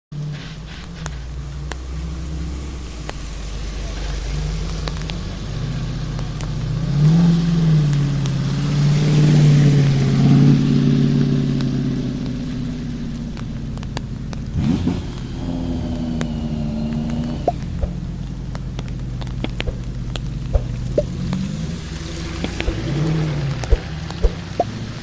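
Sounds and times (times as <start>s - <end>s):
car engine passing by: 0.2s - 12.9s, 14.5s - 25.0s.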